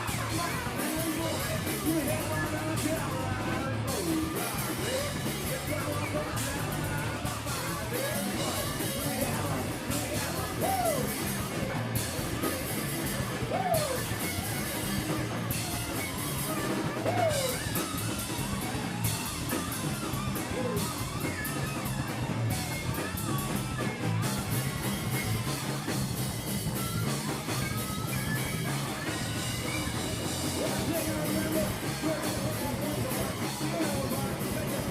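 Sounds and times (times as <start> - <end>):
guitar with bent notes: 0.0 - 34.9
live rock band playing: 0.0 - 34.9.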